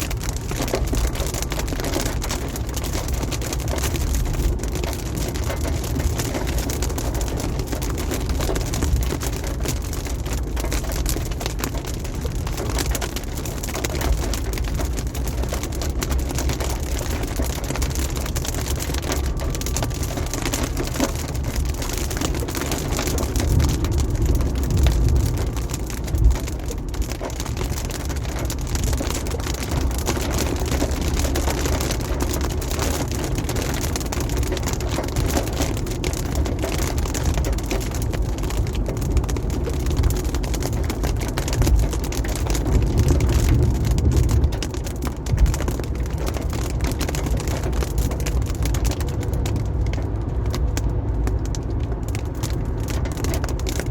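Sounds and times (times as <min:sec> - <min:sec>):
deep rumble: 0:00.0 - 0:53.9
rain: 0:00.0 - 0:53.9
tyres on wet road: 0:00.0 - 0:53.9.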